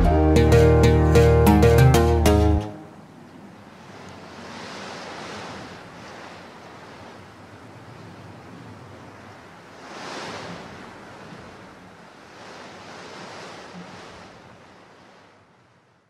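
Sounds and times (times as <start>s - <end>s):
waves washing in: 0.0s - 16.0s.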